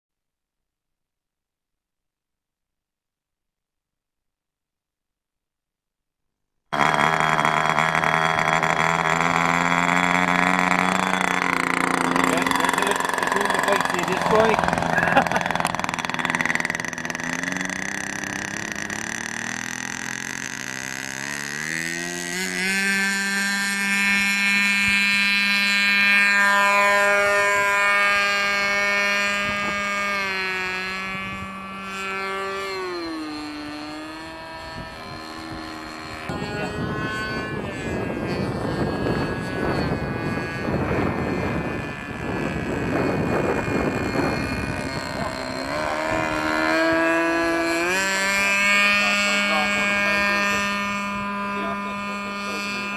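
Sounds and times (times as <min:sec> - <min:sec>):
model helicopter motor whining: 0:06.7 - 0:52.9.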